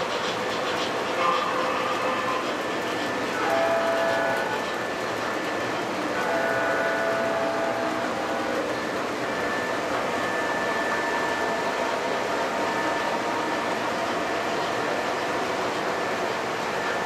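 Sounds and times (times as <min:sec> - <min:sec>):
model trains rolling rumble: 0:00.0 - 0:17.0.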